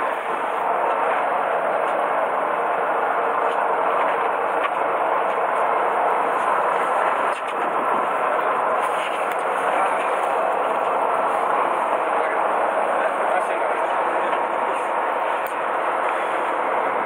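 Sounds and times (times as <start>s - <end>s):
boat engine drone: 0.0s - 17.0s
water rushing along hull: 0.0s - 17.0s.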